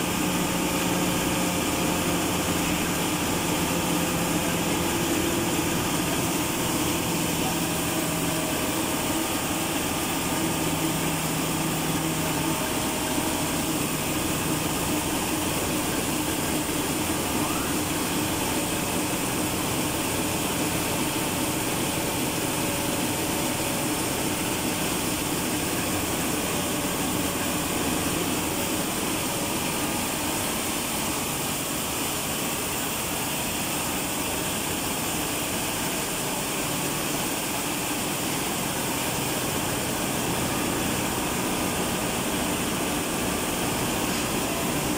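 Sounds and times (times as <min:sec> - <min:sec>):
marine diesel engine running: 0:00.0 - 0:44.9.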